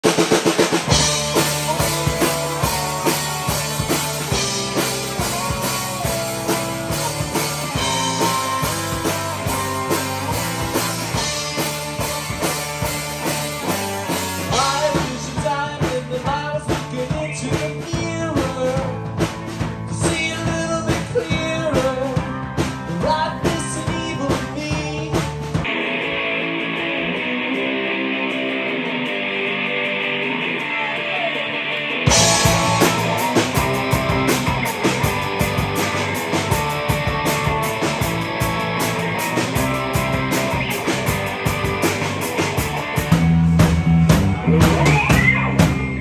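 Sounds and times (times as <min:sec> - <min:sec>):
rock band playing: 0:00.0 - 0:46.0
bending electric guitar notes: 0:00.1 - 0:15.8, 0:21.6 - 0:46.0.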